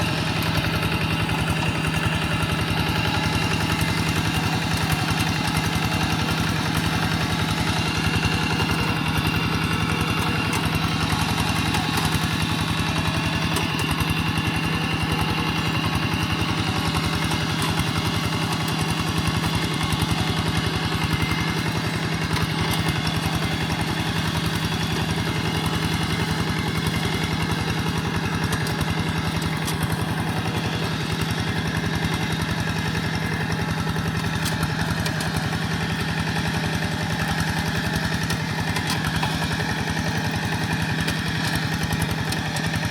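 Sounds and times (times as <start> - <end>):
walking tractor engine running: 0.0 - 42.9.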